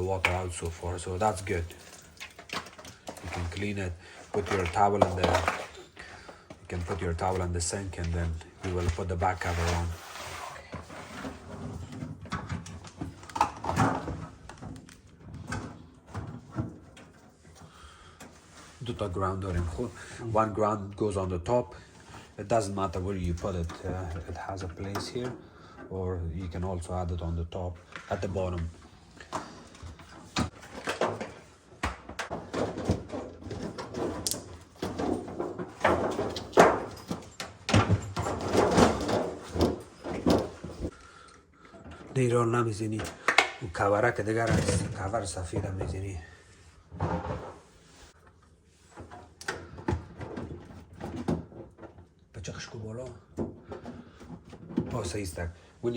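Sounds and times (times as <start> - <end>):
knocks and rattles in a freezer: 0.0 - 47.8, 48.9 - 55.9.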